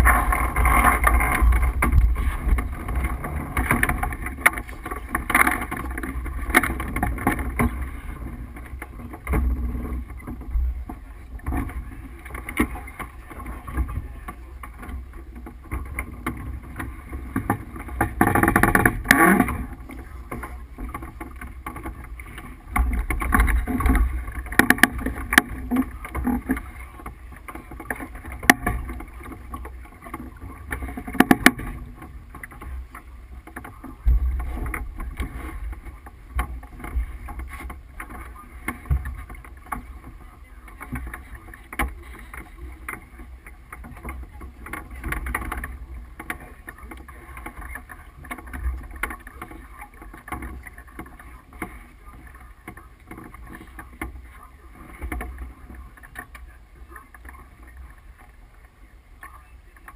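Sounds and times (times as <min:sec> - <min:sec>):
wind on microphone: 0:00.0 - 0:52.4
boat moving through water: 0:00.0 - 0:59.9.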